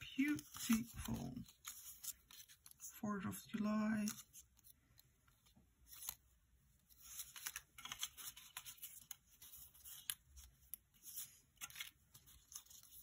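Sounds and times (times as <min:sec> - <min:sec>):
paper sheets rustling: 0:00.0 - 0:02.8, 0:03.5 - 0:06.2, 0:06.8 - 0:13.0.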